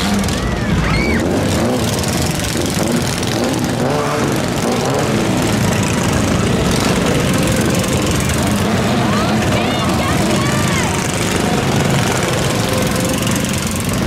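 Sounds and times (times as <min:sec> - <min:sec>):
small gasoline engines running: 0:00.0 - 0:14.0.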